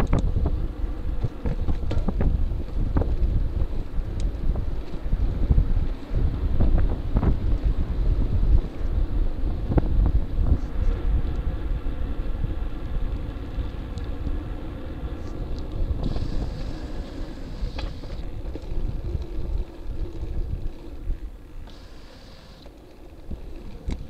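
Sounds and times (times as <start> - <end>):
tyres rumbling on pavement: 0.0 - 24.0
wind buffeting microphone: 0.0 - 24.0.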